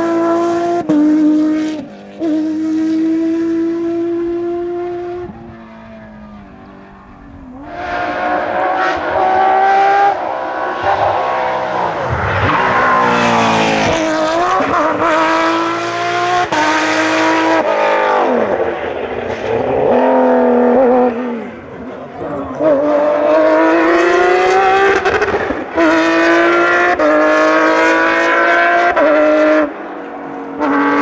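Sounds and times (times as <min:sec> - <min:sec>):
rally car engine racing: 0:00.0 - 0:31.0.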